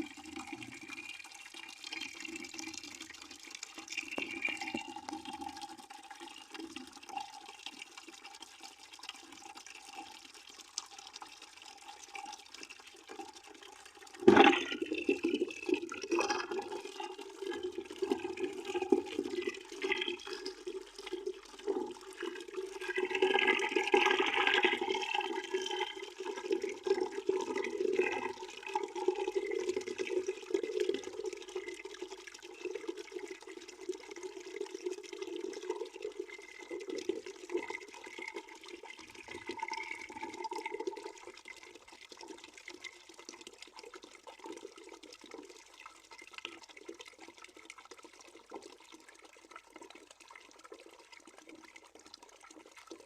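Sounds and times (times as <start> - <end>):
tap water filling bucket: 0.0 - 53.0.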